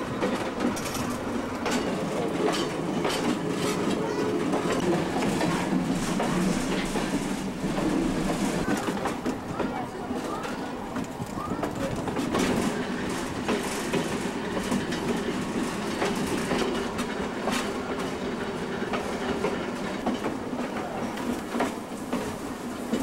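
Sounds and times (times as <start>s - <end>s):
train car rumbling on rails: 0.0s - 23.0s
wheels clicking over track: 0.0s - 23.0s.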